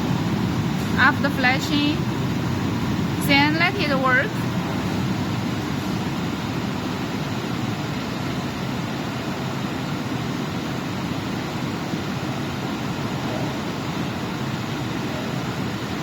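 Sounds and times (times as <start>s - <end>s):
dehumidifier fan rushing: 0.0s - 16.0s.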